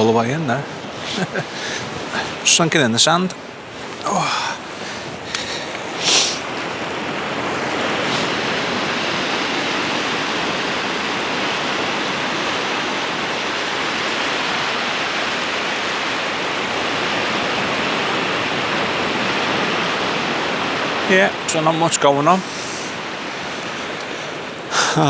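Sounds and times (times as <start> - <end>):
sea surf washing on beach: 0.0 - 25.0.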